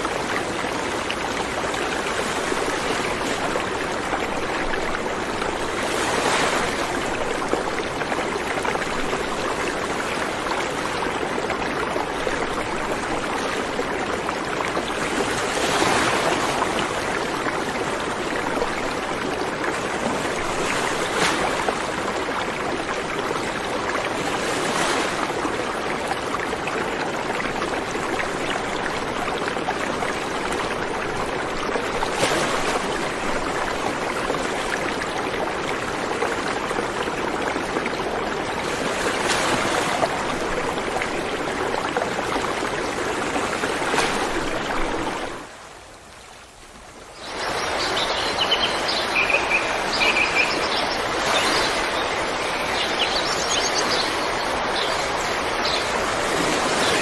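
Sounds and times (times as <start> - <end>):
river water flowing over stones: 0.0 - 57.0.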